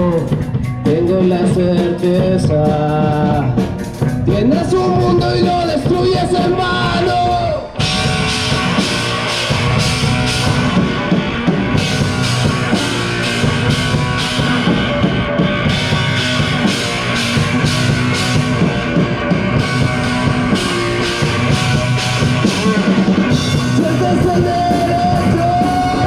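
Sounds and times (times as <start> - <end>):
drum kit beat: 0.0 - 26.0
rock band playing: 0.0 - 26.0.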